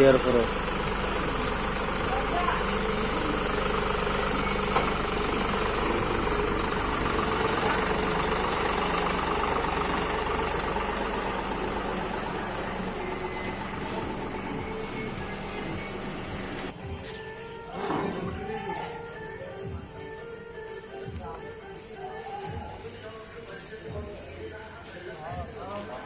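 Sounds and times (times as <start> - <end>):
diesel tractor engine idling: 0.0 - 26.0.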